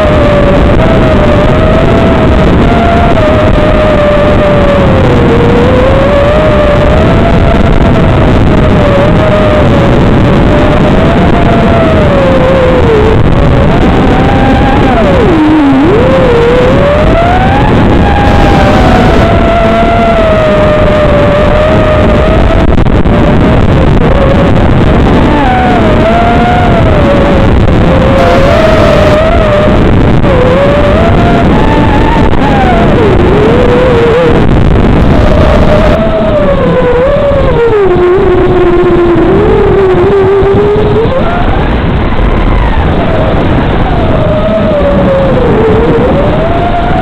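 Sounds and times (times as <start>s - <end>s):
drone motor whine: 0.0s - 47.0s
loud constant hiss: 0.0s - 47.0s.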